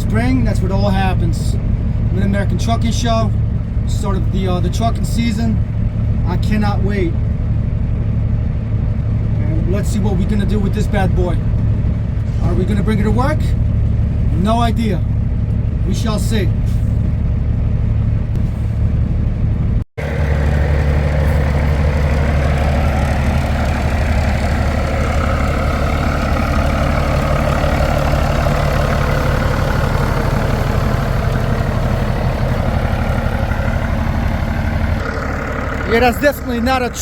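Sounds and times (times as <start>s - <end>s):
diesel truck engine droning: 0.0s - 37.0s.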